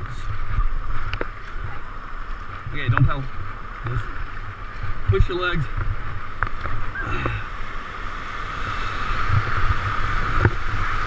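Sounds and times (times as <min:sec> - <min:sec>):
white water rushing: 0:00.0 - 0:11.0.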